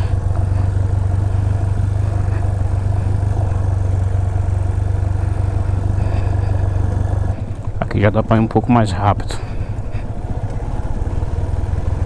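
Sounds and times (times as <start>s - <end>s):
motorcycle engine low drone: 0.0s - 12.0s.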